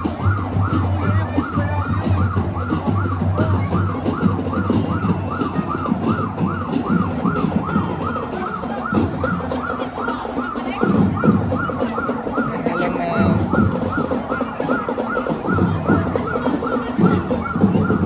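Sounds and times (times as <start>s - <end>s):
electronic siren yelping: 0.0s - 18.0s.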